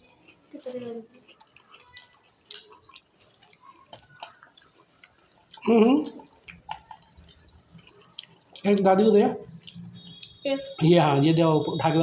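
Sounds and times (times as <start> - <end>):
people chewing crunchy snacks: 0.0 - 10.4.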